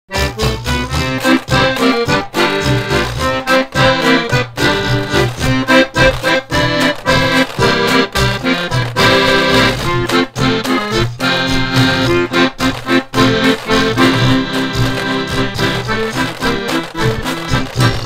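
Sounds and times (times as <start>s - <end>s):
accordion playing short chords: 0.1s - 18.0s.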